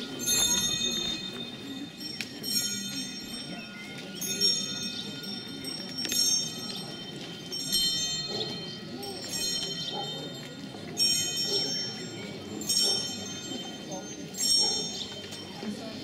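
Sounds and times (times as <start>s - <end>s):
bell ringing: 0.0s - 16.0s.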